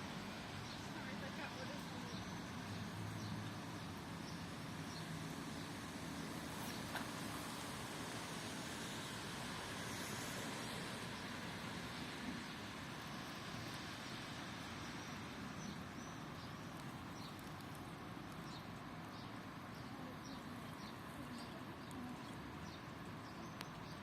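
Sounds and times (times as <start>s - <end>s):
rain hissing: 0.0s - 19.7s.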